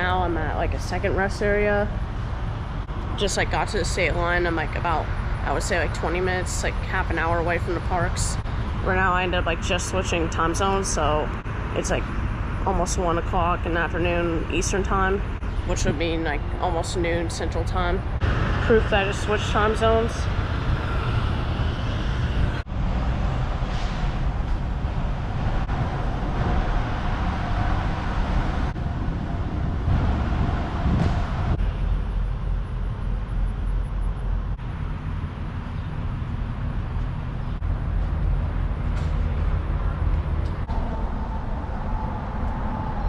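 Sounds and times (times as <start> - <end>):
car road noise rumble: 0.0 - 43.0.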